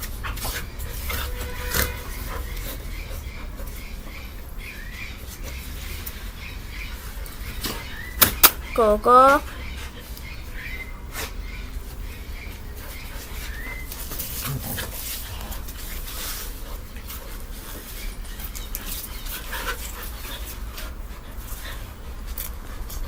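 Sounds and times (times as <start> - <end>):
dog panting: 0.0 - 8.2, 8.8 - 23.0.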